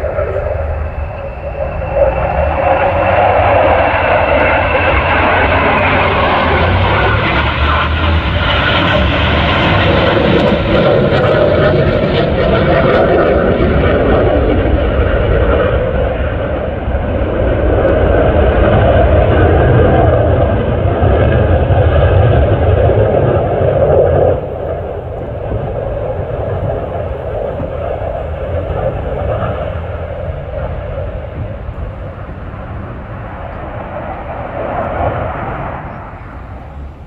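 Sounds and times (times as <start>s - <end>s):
fighter jets flying past: 0.0s - 37.0s.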